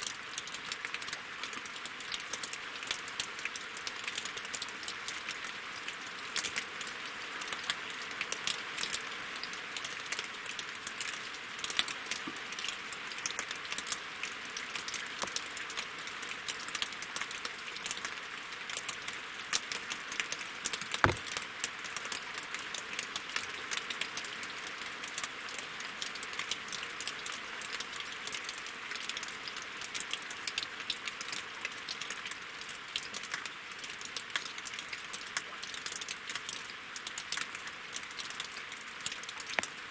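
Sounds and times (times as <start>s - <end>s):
rain patter on water and logs: 0.0s - 39.9s.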